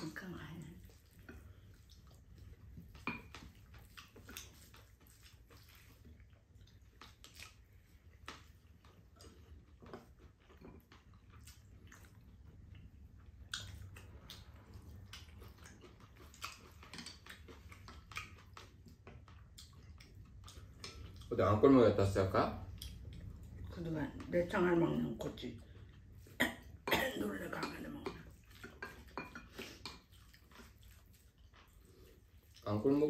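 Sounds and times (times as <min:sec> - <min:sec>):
chewing: 0:00.0 - 0:33.0
low steady hum: 0:00.0 - 0:33.0.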